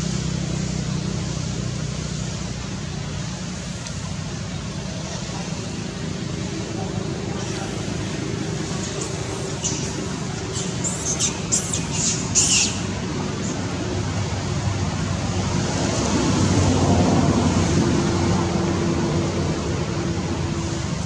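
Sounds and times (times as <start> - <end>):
motor vehicle humming: 0.0 - 21.0.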